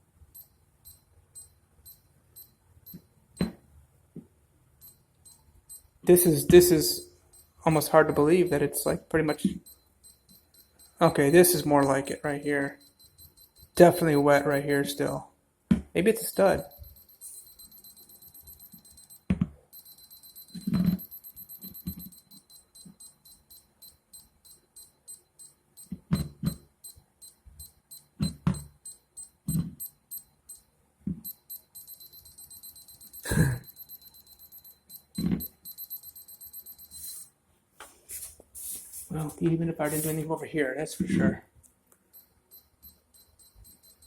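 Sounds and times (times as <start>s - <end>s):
moisture meter beeping: 0.3s - 3.6s, 4.8s - 15.3s, 16.0s - 37.4s, 42.1s - 44.0s.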